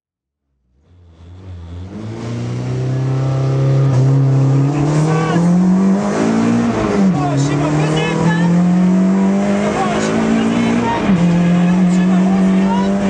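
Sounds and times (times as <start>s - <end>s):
rally car engine accelerating: 0.5s - 13.0s.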